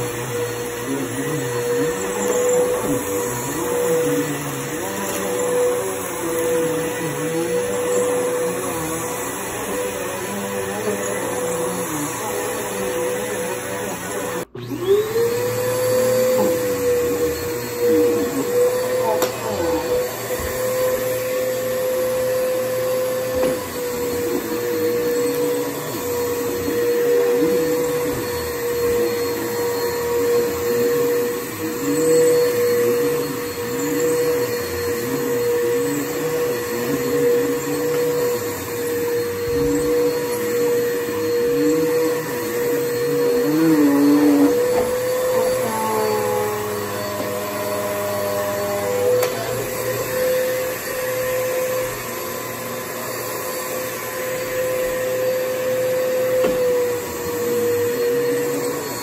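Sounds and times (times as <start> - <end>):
upright vacuum cleaner running: 0.0 - 59.0.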